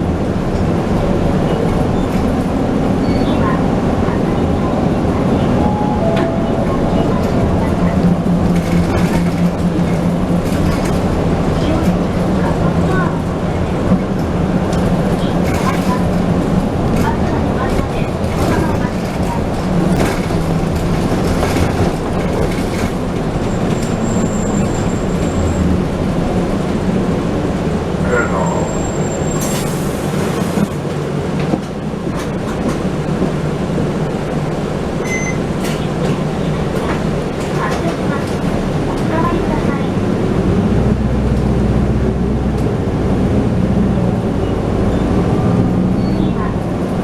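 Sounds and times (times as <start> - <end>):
bus engine running: 0.0 - 47.0
road noise: 0.0 - 47.0.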